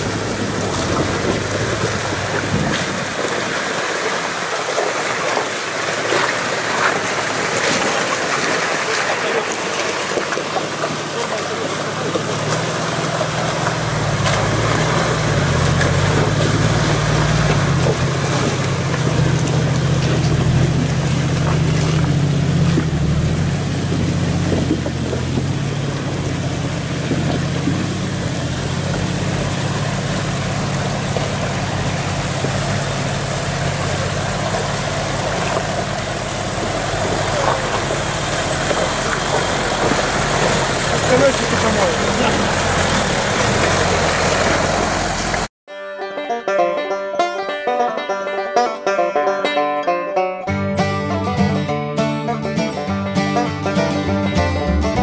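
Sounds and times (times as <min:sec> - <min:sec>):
stream rushing over rocks: 0:00.0 - 0:45.5
vehicle engine rumble: 0:00.0 - 0:45.6, 0:50.6 - 0:55.0.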